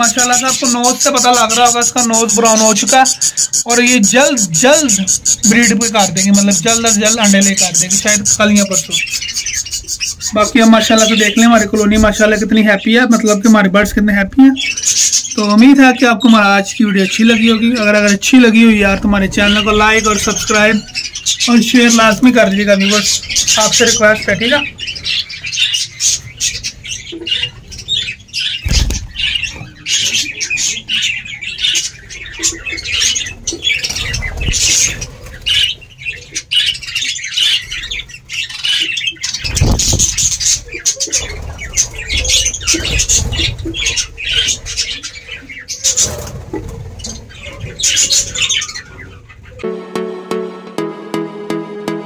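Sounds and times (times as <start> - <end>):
budgies warbling and squawking: 0.0 - 49.7.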